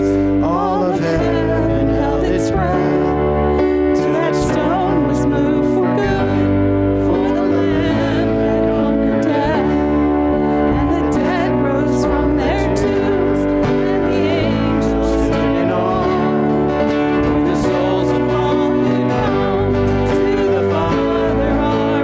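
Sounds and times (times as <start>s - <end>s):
electric keyboard chords: 0.0s - 22.0s
hymn singing: 0.0s - 22.0s
low bass line: 0.0s - 22.0s.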